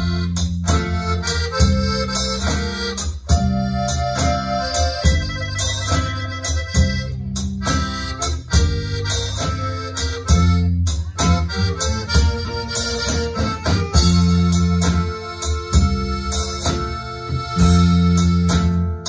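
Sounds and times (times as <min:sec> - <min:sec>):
bass: 0:00.0 - 0:19.0
drums: 0:00.0 - 0:19.0
electronic keyboard: 0:00.0 - 0:19.0
guitars: 0:00.0 - 0:19.0
saxophone lead: 0:00.0 - 0:19.0.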